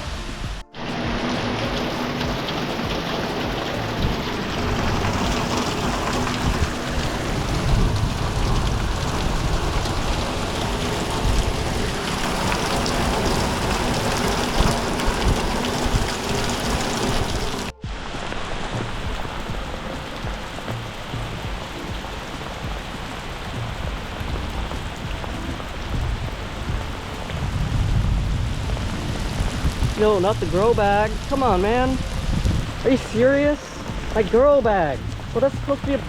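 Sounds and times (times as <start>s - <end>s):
heavy rain: 0.0s - 36.0s
wind gusts hitting microphone: 0.0s - 36.0s.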